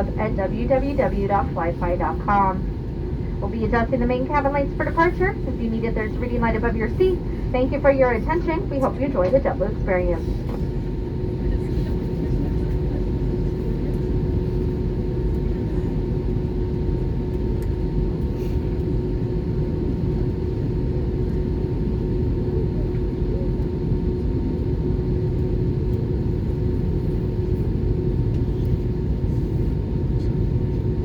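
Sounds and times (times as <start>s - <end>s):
aircraft cabin rumble: 0.0s - 31.0s
constant hum: 0.0s - 31.0s.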